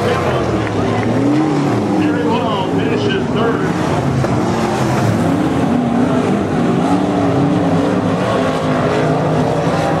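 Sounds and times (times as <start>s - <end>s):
race car engines at speed: 0.0s - 10.0s.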